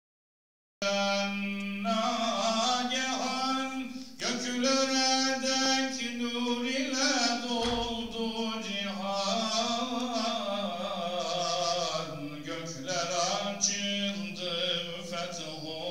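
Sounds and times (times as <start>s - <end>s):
man chanting unaccompanied: 0.8s - 15.9s.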